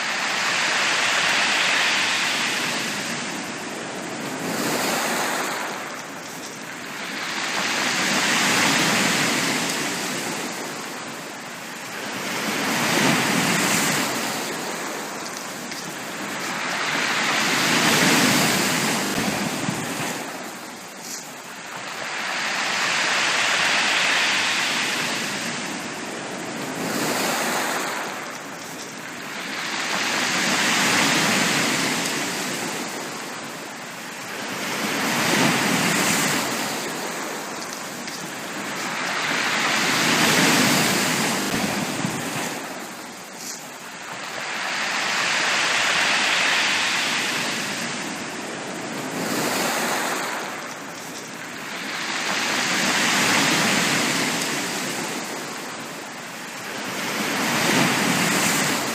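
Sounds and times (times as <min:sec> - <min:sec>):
sea waves breaking on beach: 0:00.0 - 0:58.9.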